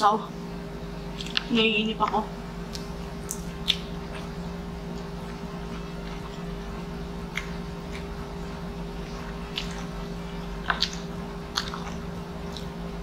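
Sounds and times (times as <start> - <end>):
steady low hum: 0.0 - 13.0
person chewing food: 1.1 - 1.5, 2.6 - 13.0.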